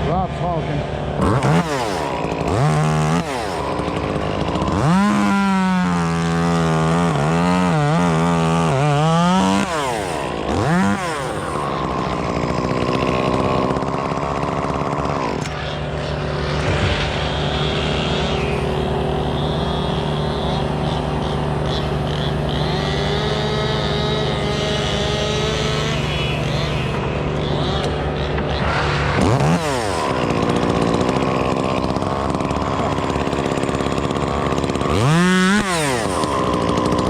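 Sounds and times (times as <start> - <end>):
chainsaw engine revving: 0.0 - 37.0.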